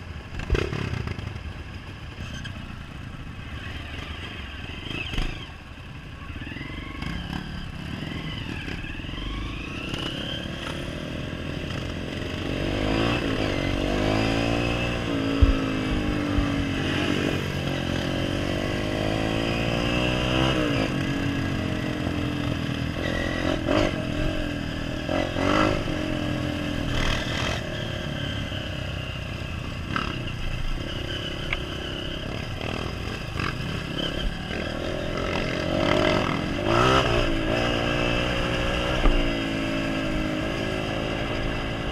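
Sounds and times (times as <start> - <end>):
dirt bike engine revving: 6.4 - 28.6, 29.8 - 41.9.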